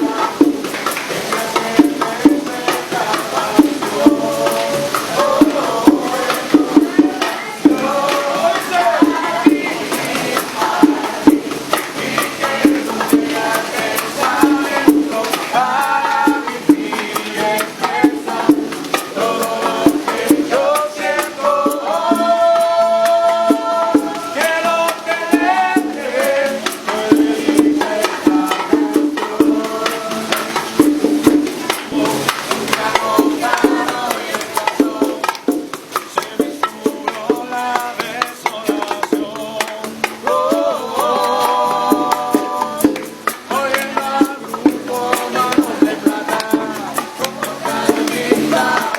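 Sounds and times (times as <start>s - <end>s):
music with shaken percussion: 0.0s - 48.9s.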